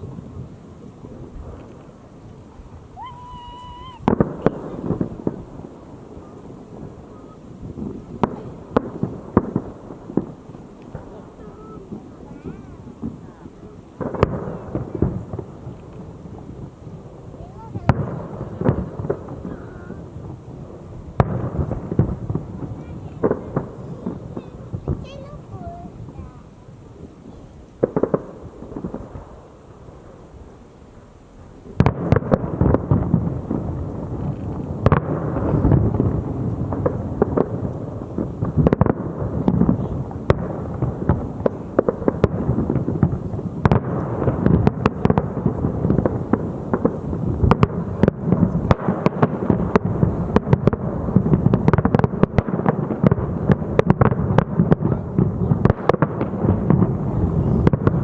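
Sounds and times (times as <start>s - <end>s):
fireworks bursts and crackling: 0.0s - 58.0s
fireworks rumble: 0.0s - 58.0s.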